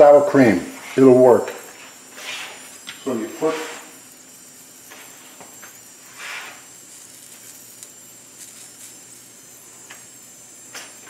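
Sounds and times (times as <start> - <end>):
gas burner flame hissing: 0.0 - 11.0.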